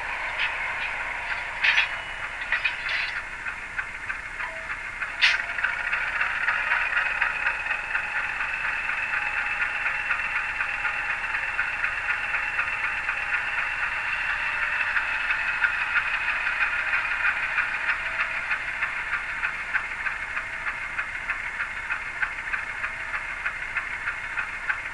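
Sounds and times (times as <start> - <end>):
tinny diesel engine sound from speaker: 0.0 - 24.9.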